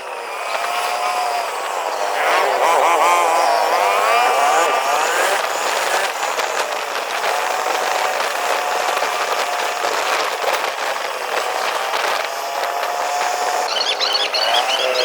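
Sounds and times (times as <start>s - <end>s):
vehicle road and wind noise: 0.0s - 15.0s.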